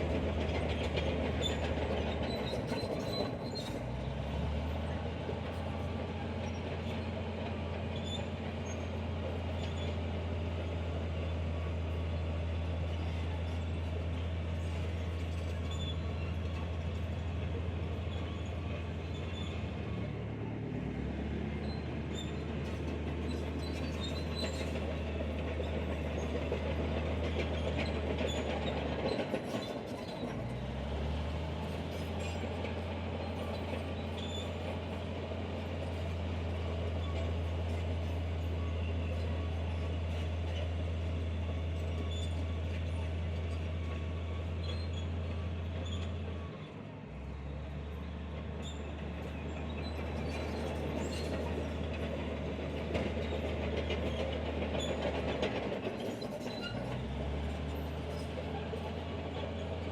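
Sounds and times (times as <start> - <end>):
heavy machinery diesel engine: 0.0 - 59.9.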